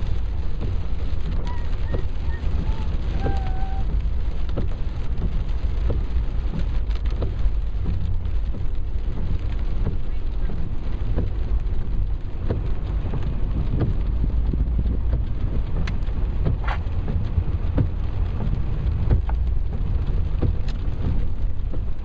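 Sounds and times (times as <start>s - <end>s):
rain on car windscreen and roof: 0.0s - 22.0s.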